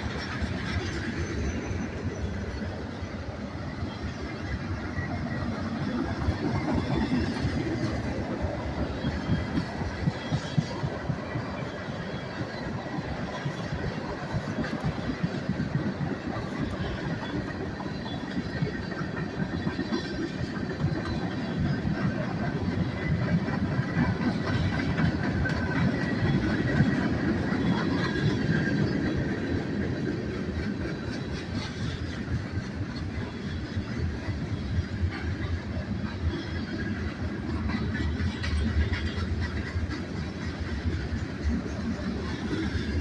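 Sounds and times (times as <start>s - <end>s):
freight train rolling past: 0.0s - 43.0s.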